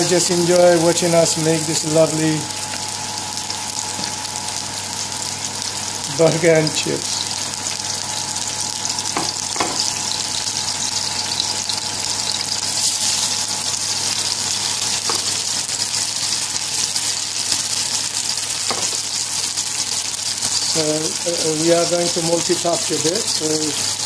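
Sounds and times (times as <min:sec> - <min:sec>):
burgers sizzling in oil: 0:00.0 - 0:24.0.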